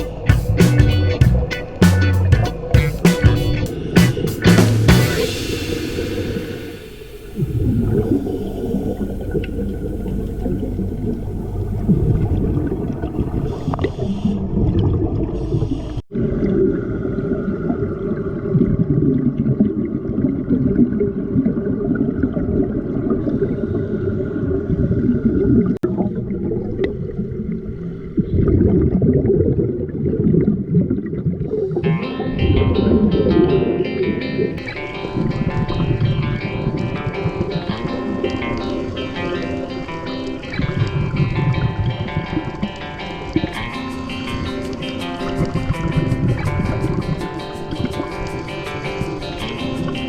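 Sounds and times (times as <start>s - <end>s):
muffled underwater water rush: 3.6s - 50.0s
bubbling and gurgling: 5.2s - 50.0s.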